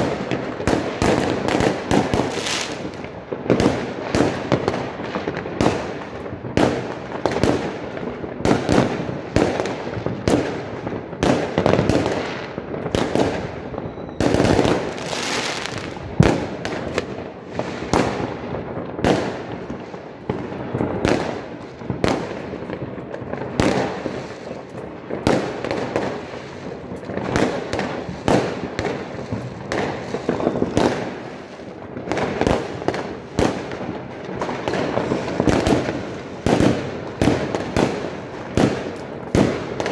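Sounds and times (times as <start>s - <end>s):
fireworks and firecrackers banging: 0.0s - 39.9s.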